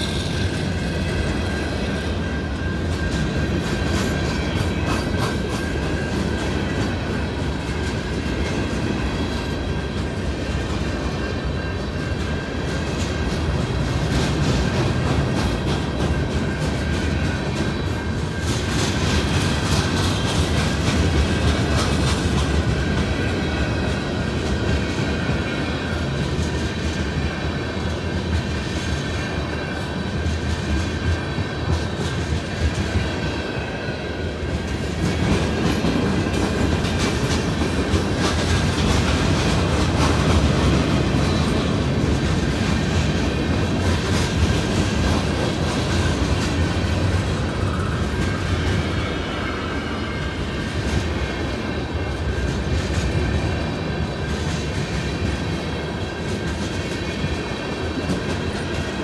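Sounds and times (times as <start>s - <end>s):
wheels clicking over rail joints: 0.0s - 33.4s, 34.5s - 49.0s
freight train rumbling: 0.0s - 59.0s.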